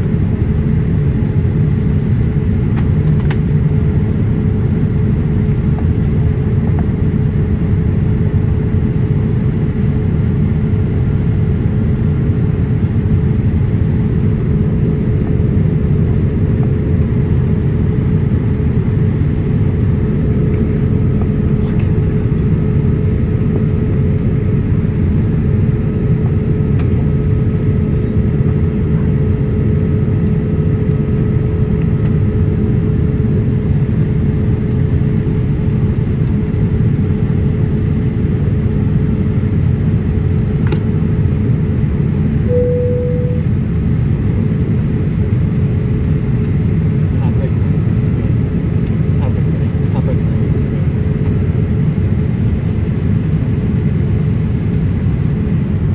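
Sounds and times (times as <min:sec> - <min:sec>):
airplane cabin engine rumble: 0:00.0 - 0:55.9
constant mid-pitched hum: 0:00.0 - 0:55.9.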